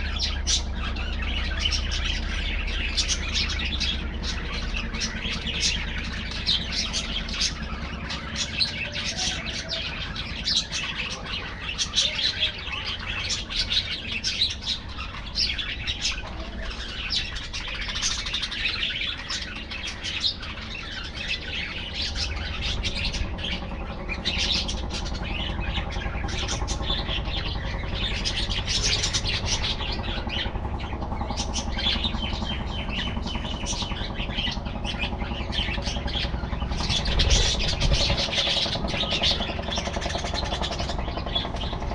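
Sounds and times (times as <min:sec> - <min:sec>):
budgerigars chattering: 0:00.0 - 0:41.9
steady low hum: 0:00.0 - 0:41.9.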